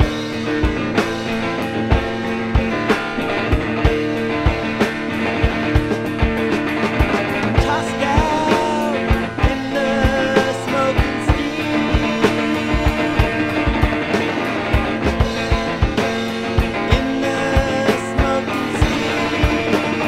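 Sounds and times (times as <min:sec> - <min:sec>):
rock music with guitars and drums: 0:00.0 - 0:20.0.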